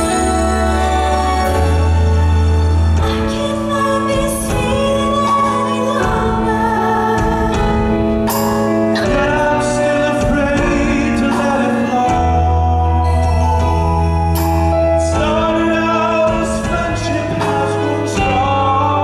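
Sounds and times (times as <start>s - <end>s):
live band music: 0.0s - 19.0s
person singing: 0.0s - 19.0s.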